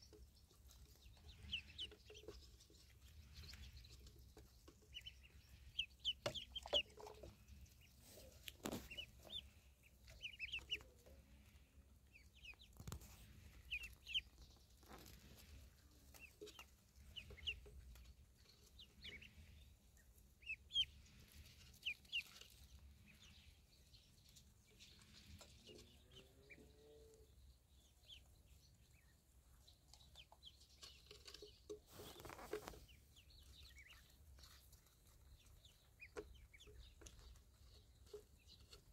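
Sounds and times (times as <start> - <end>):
ducklings peeping: 0.0 - 38.9.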